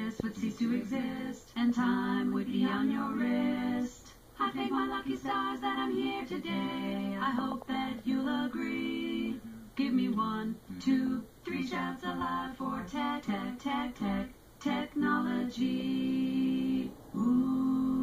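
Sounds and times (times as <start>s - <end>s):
synthesized voice singing harmony: 0.0s - 18.0s.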